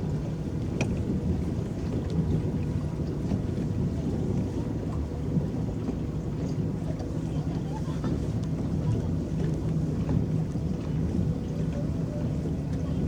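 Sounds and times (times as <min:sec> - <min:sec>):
water churning and lapping at hull: 0:00.0 - 0:13.0.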